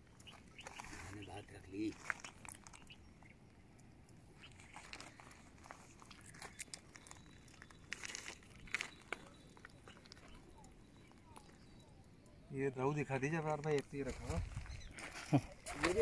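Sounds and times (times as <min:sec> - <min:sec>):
faint clicks and crackles: 0:00.0 - 0:16.0.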